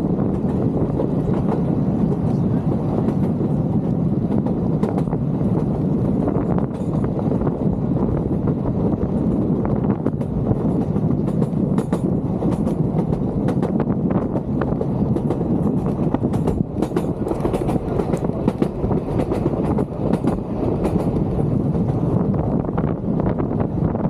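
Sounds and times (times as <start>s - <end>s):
train carriages rumbling: 0.0s - 24.0s
wheels clicking and squealing on rails: 0.0s - 24.0s.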